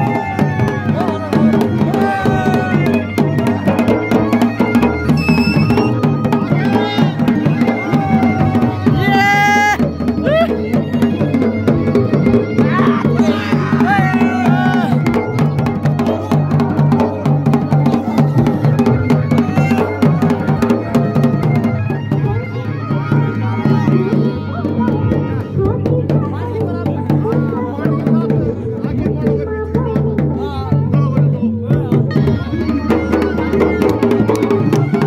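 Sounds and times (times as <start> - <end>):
drums beating fast rhythm: 0.0 - 35.0.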